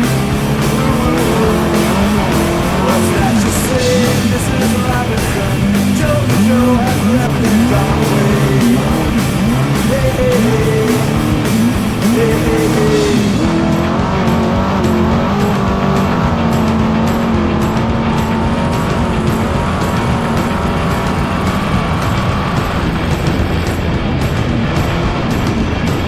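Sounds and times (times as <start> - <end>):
music playing: 0.0 - 26.0
truck engine revving: 0.0 - 26.0.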